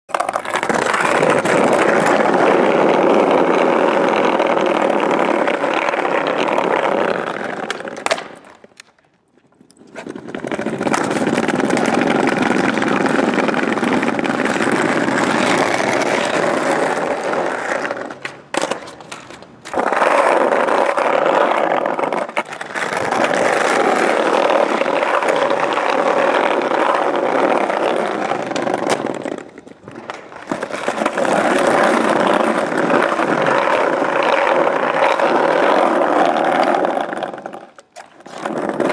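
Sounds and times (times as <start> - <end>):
skateboard wheels rolling on paving: 0.1 - 38.9.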